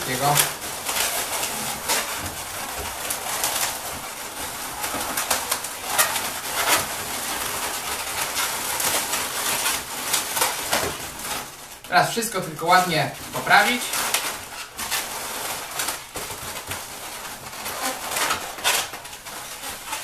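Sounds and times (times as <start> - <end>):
balloons squeaking and rubbing: 0.0 - 20.0.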